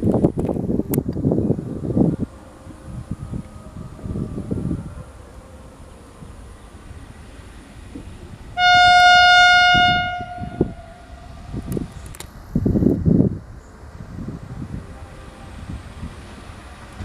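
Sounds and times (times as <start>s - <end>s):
rail vehicle horn: 1.4s - 12.3s, 13.6s - 17.0s.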